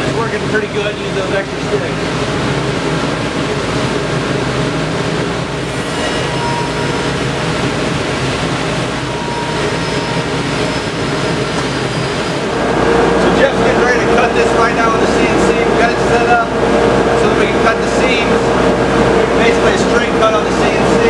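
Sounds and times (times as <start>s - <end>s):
workshop machinery rushing and humming: 0.0s - 21.0s.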